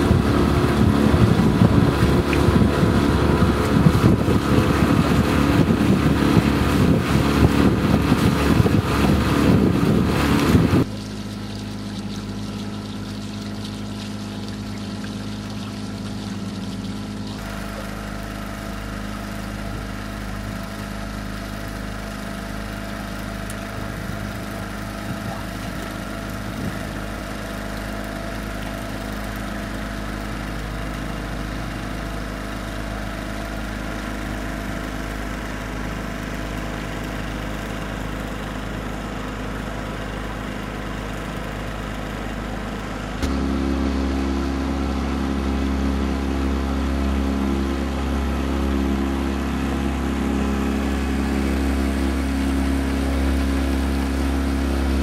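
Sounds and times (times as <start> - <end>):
outboard motor running: 0.0 - 55.0
wind: 0.0 - 55.0.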